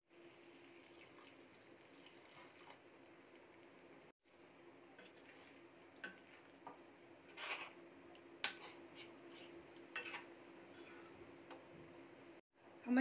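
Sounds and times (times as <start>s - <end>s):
curry simmering: 0.1s - 12.4s.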